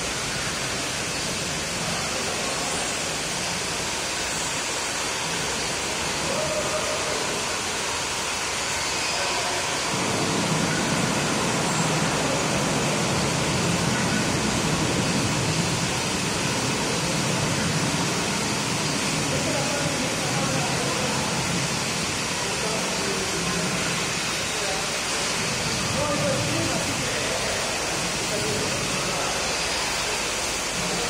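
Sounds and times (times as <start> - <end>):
low murmur: 0.0 - 31.0
steady rushing noise: 0.0 - 31.0.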